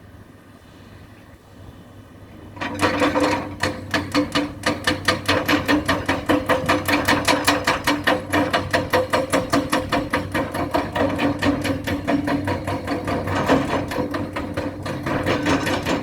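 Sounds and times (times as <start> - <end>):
rapid metallic knocking: 2.6 - 16.0.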